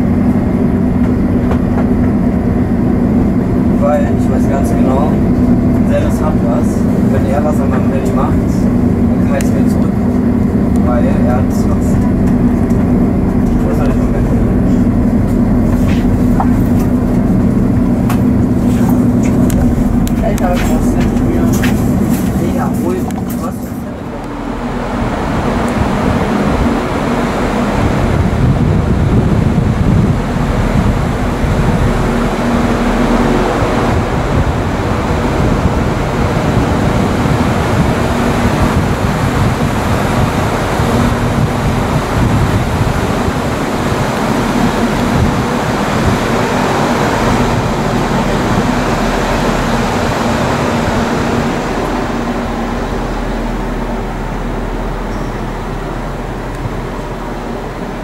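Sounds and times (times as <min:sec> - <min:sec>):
constant hum: 0:00.0 - 0:58.0
diesel engine idling: 0:00.0 - 0:58.0.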